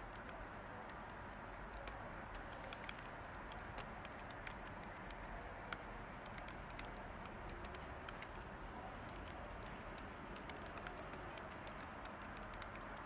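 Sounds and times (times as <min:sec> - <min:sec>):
white noise hiss: 0:00.0 - 0:13.0
computer keyboard typing: 0:01.7 - 0:13.0.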